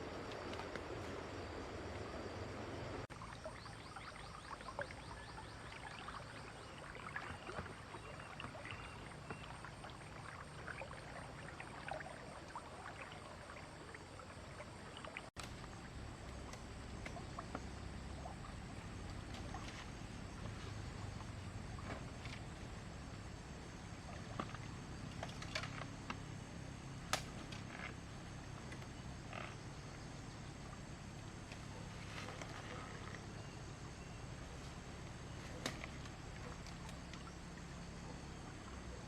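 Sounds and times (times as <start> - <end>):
low steady rumble: 0.0 - 7.5, 8.8 - 39.0
water splashing and trickling: 0.0 - 39.0.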